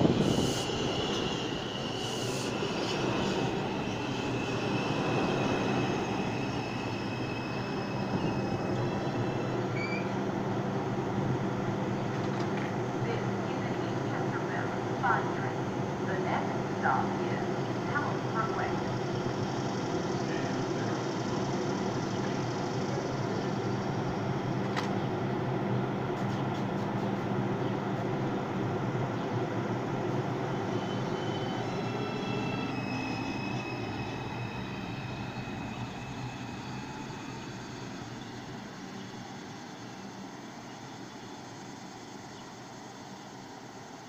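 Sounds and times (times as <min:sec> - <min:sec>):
subway train wheels on rails: 0:00.0 - 0:44.0.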